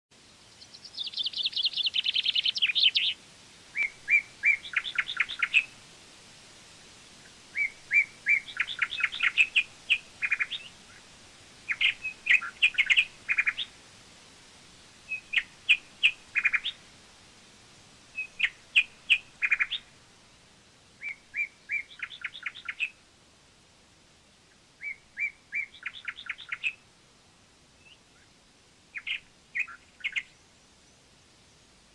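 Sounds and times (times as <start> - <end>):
songbird chirping: 0.1 - 23.4, 24.0 - 31.9.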